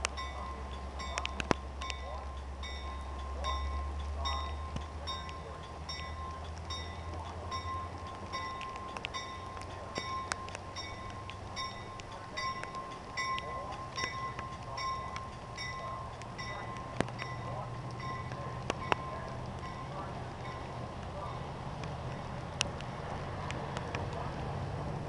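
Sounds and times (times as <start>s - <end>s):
railroad crossing bell ringing: 0.0s - 22.4s
raindrops ticking on car: 0.0s - 24.4s
low rumble of passing train: 0.0s - 25.0s.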